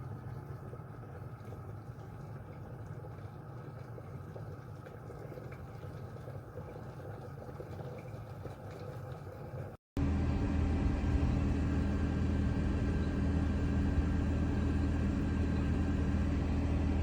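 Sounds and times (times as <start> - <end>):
electric kettle heating water: 0.0 - 17.0.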